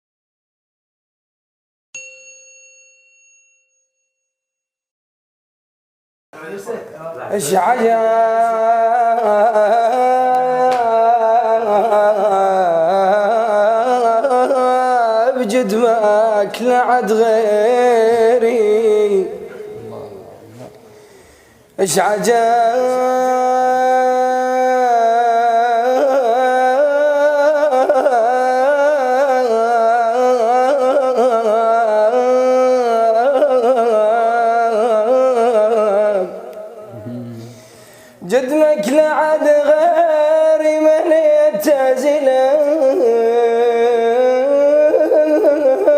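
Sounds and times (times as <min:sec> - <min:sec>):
man chanting wordless melody: 0:06.4 - 0:20.9, 0:21.8 - 0:45.9.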